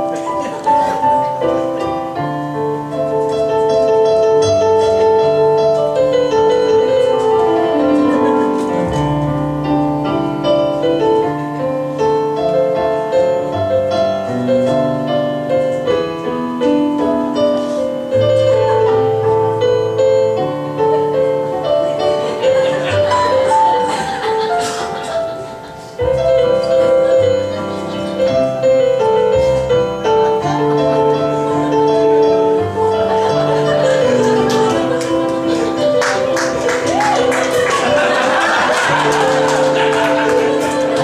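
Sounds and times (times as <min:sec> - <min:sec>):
piano music: 0:00.0 - 0:41.0.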